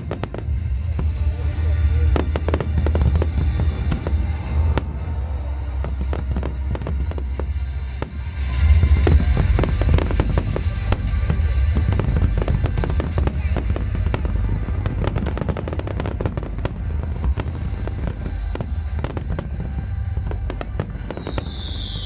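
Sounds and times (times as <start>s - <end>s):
deep booming rumble: 0.0s - 22.0s
fireworks bangs and crackling: 0.0s - 22.0s
music playing: 0.0s - 22.0s.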